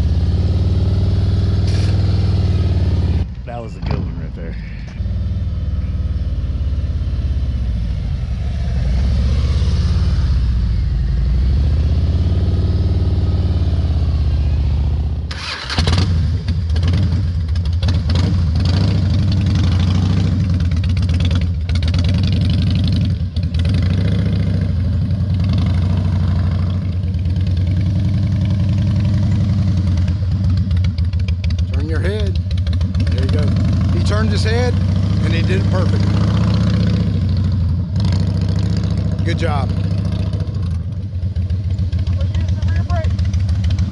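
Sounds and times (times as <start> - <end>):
motorcycle engines running: 0.0 - 43.9.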